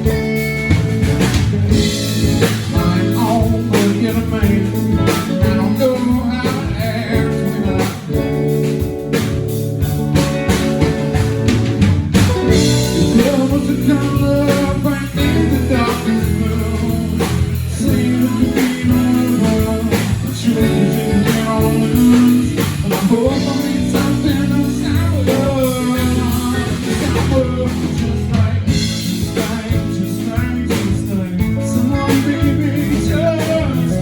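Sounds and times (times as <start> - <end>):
person singing: 0.0 - 8.6, 12.3 - 34.0
blues-rock band playing live: 0.0 - 34.0.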